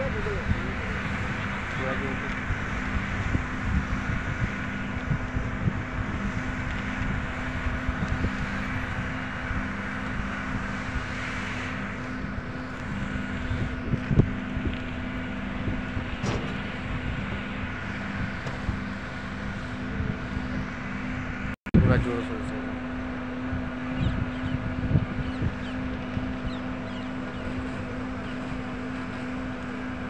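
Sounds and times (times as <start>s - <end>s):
engine hum of vehicles: 0.0s - 30.0s
wind buffeting microphone: 0.0s - 30.0s.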